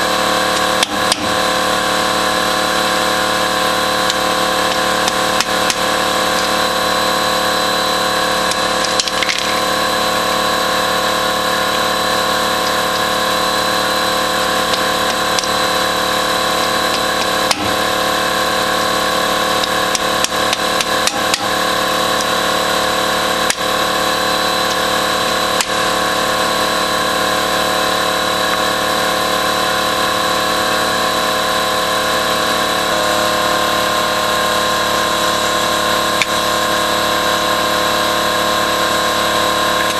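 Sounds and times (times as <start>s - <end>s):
steady machine drone: 0.0s - 39.9s.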